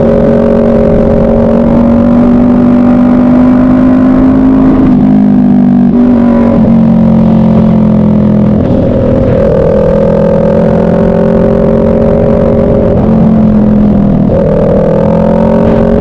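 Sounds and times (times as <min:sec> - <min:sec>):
wind noise rumbling: 0:00.0 - 0:03.4, 0:04.1 - 0:16.0
racing motorcycle engine: 0:00.0 - 0:16.0.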